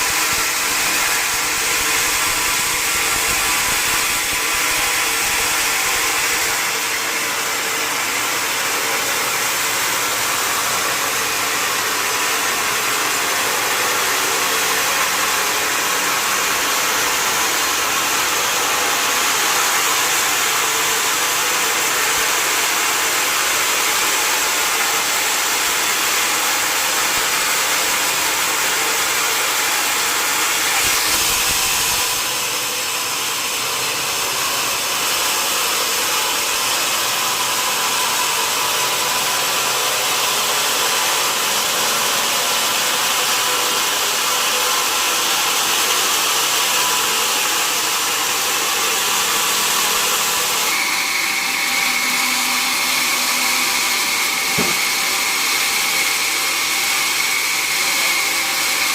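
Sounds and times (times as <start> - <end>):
sawmill saw cutting log: 0.0 - 58.9.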